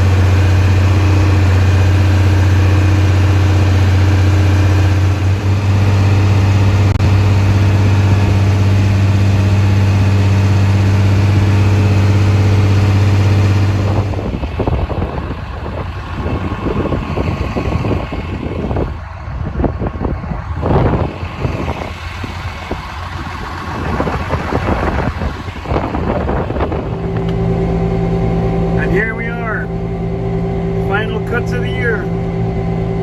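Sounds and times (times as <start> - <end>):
combine harvester engine running: 0.0 - 33.0.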